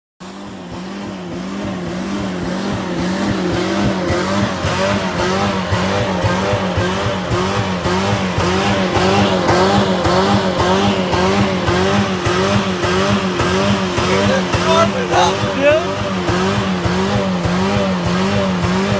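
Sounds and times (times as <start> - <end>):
car engine revving high: 0.2 - 18.9.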